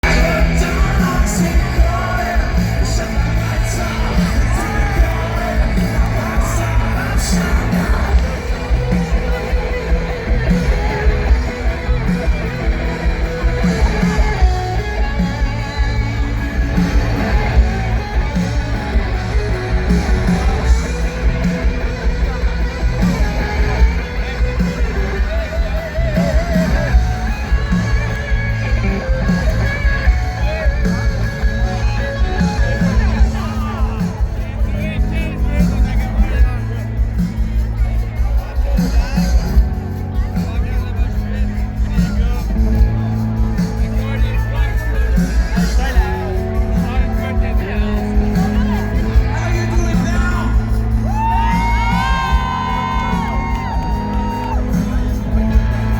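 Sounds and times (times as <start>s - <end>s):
rock band playing live: 0.0s - 55.9s.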